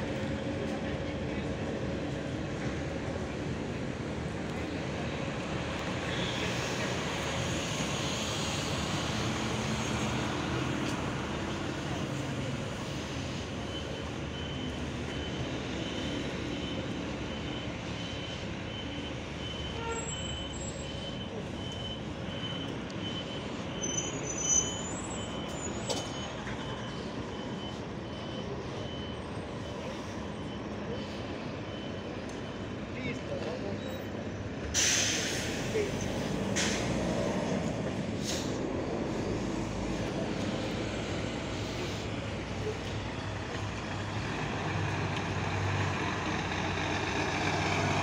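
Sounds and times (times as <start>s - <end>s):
diesel bus engines running: 0.0s - 48.0s
road noise: 0.0s - 48.0s.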